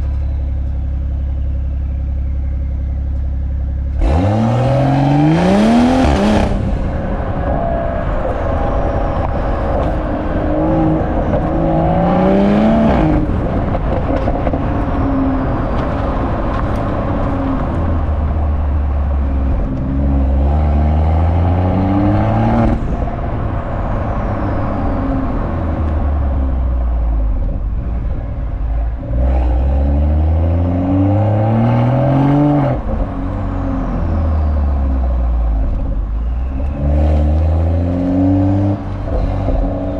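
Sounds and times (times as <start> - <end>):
car exhaust under hard acceleration: 0.0 - 39.9.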